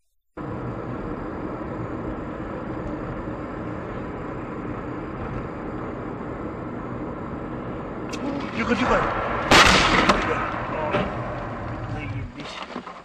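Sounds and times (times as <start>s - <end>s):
vehicle engine and road rumble: 0.4s - 13.0s.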